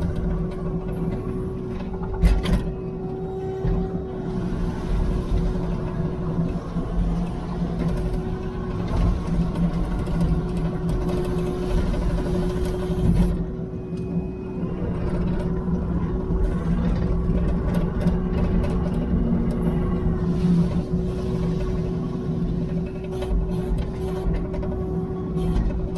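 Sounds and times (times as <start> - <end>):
heavy equipment engine humming: 0.0 - 25.9.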